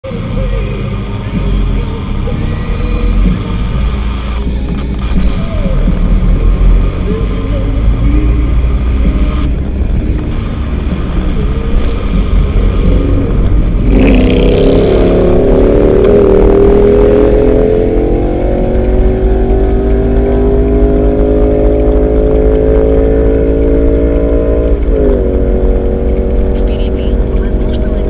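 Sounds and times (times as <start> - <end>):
vehicle engine accelerating: 0.0 - 28.0.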